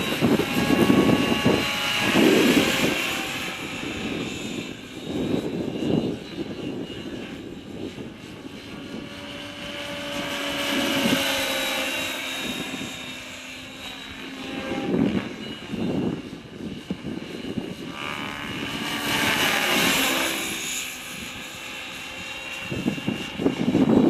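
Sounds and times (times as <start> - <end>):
rc helicopter motor whine: 0.0 - 24.0
wind buffeting microphone: 0.0 - 24.0.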